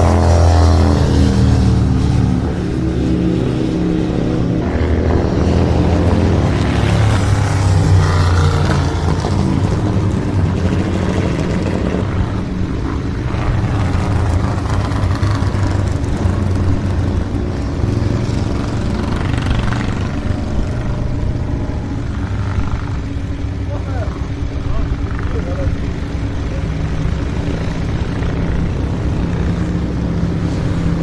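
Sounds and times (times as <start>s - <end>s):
racing motorcycle engines: 0.0s - 31.0s.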